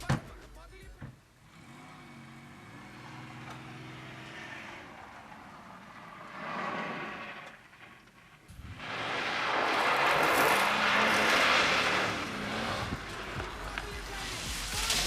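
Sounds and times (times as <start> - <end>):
road noise: 0.0 - 15.0
vehicle engine hum: 0.4 - 15.0.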